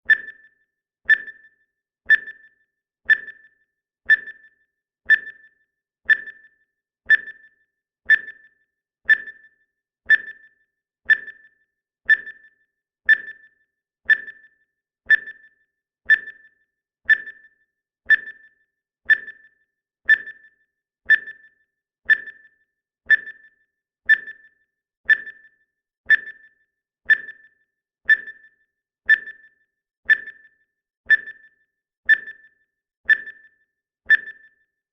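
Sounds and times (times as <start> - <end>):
timer beeping: 0.0 - 34.8.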